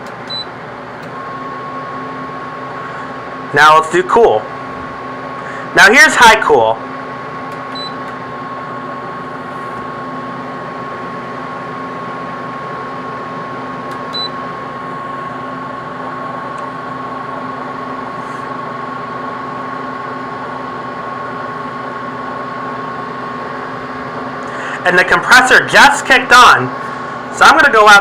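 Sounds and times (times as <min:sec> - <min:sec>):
air conditioner fan whine and hum: 0:00.0 - 0:28.0.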